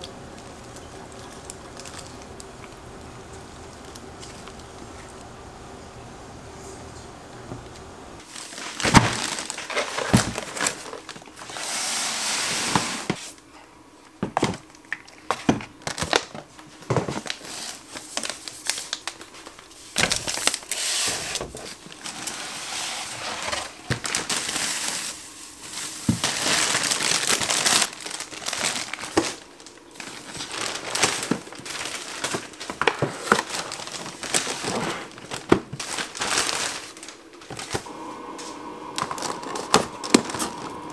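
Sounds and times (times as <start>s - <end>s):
plastic bags crinkling: 0.0s - 5.4s, 8.2s - 11.7s, 14.5s - 38.0s, 38.9s - 40.9s.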